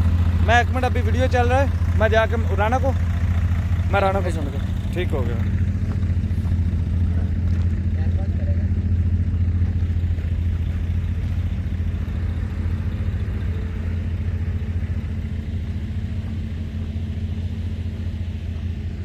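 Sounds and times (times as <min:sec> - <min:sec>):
large engine droning: 0:00.0 - 0:19.0.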